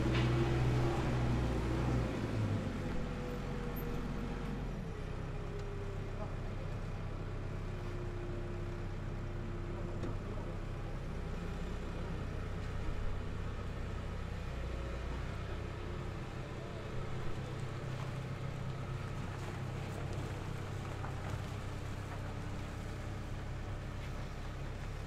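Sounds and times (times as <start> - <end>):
diesel excavator engine idling: 0.0 - 25.0.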